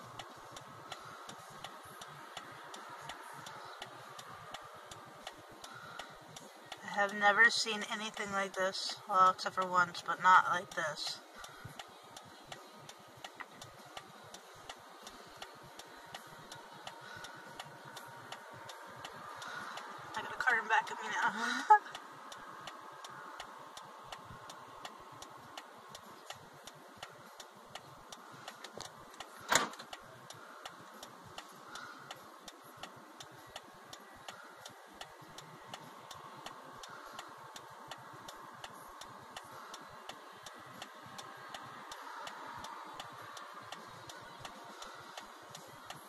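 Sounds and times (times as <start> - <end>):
turn signal ticking: 0.0 - 46.0.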